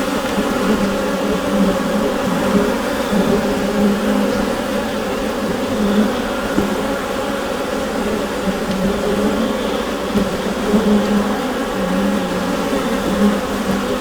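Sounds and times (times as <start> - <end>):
bees buzzing in hive: 0.0 - 14.0.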